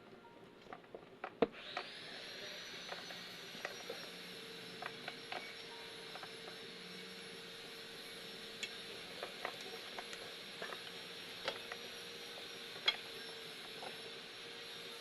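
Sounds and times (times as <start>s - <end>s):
faint steady hum and hiss: 0.0s - 15.0s.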